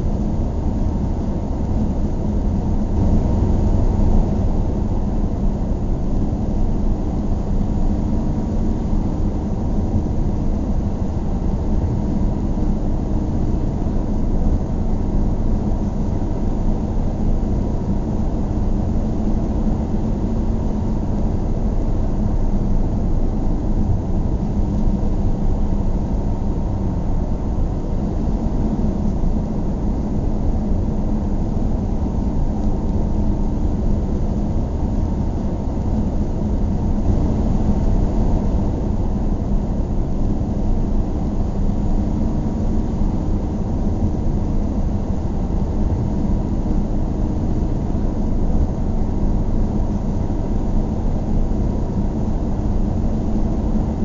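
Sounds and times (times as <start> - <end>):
car engine and tyre rumble: 0.0 - 54.0
faint steady hum: 0.0 - 54.0.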